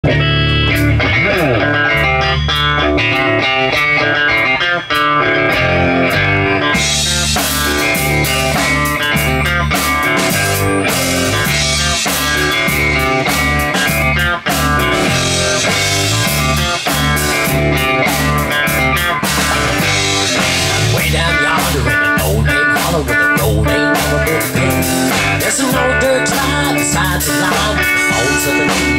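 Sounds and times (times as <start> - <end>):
drum kit: 0.0 - 28.9
electric bass: 0.0 - 28.9
electric guitar lead: 0.0 - 28.9.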